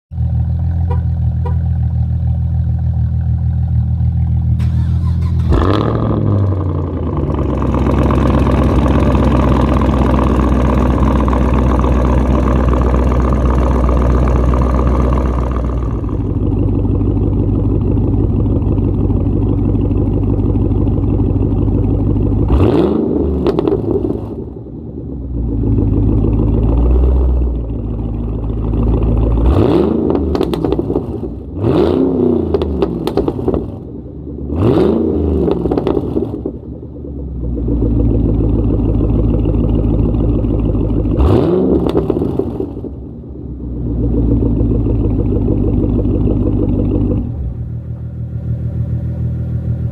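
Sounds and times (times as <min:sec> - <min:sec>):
car engine idling and revving: 0:00.1 - 0:49.9.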